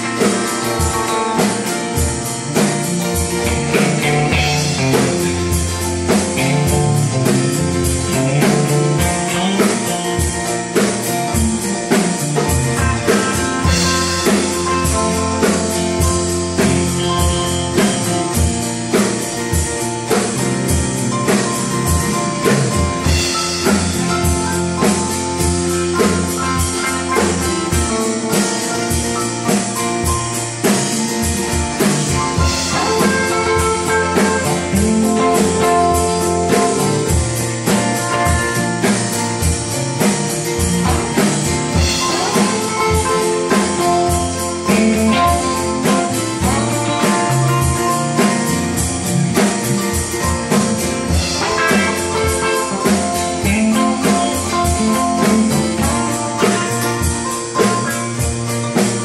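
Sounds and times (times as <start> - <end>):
bluesy guitar lead: 0.0 - 59.0
drum kit beat: 0.0 - 59.0.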